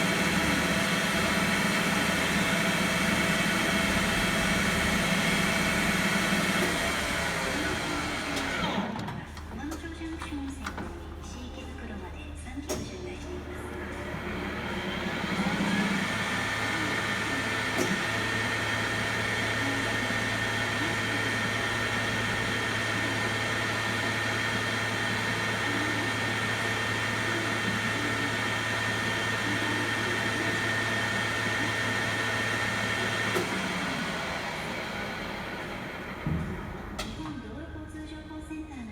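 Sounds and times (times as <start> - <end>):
lathe spindle whining: 0.0 - 11.4, 13.3 - 37.2.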